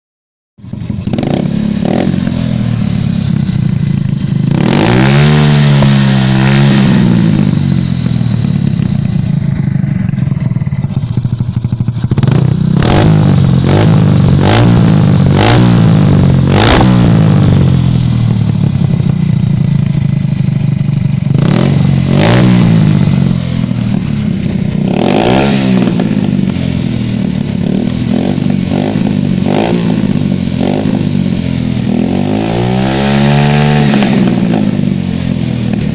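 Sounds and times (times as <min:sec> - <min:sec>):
motorcycle engine revving: 0:00.6 - 0:35.9.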